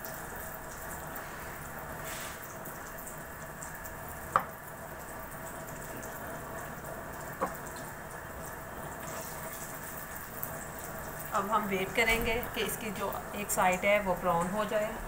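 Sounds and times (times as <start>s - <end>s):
frying in hot oil sizzling: 0.0s - 15.0s.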